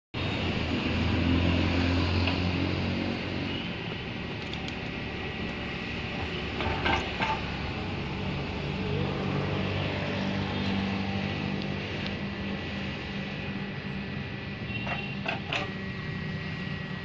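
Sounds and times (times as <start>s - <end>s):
vehicle engine hum: 0.2s - 17.0s.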